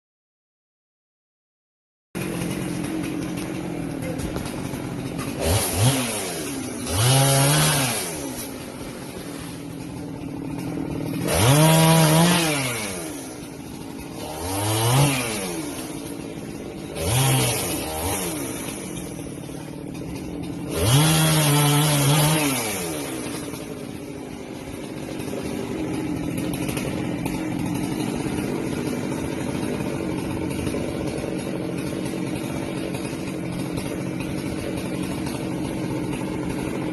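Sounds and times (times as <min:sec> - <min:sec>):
chainsaw idling and revving: 0:02.2 - 0:36.9.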